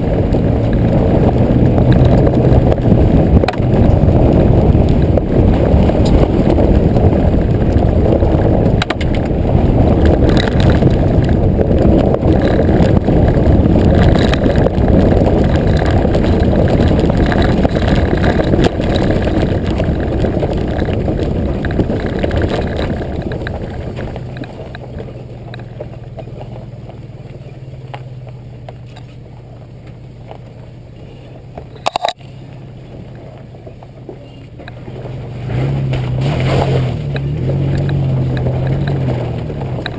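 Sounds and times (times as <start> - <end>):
wind buffeting: 0.0 - 28.6, 31.6 - 39.9
low engine hum: 0.0 - 39.9
tyres on dirt track: 0.0 - 39.9.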